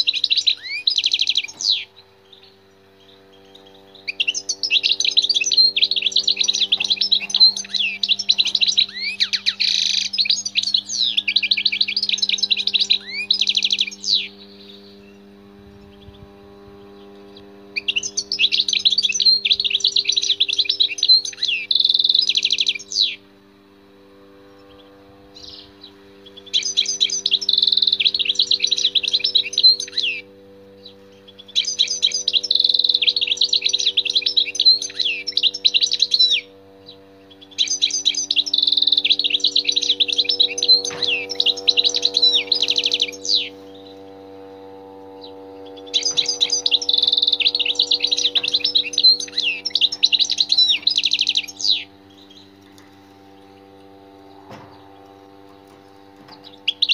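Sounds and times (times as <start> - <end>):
bird twittering song: 0.0 - 56.9
faint steady hum: 0.0 - 56.9.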